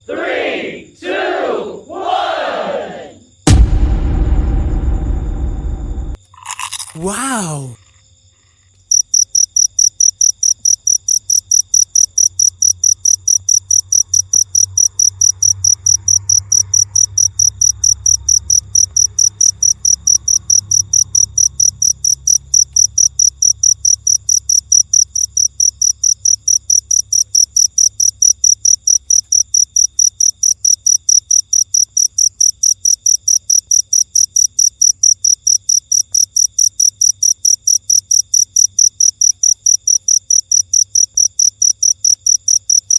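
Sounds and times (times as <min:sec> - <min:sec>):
cricket chirping: 0:07.8 - 0:42.9.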